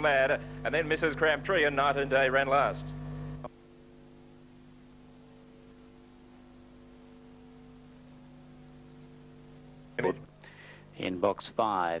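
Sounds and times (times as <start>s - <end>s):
faint electrical hum: 0.0s - 12.0s
light hiss: 0.0s - 12.0s.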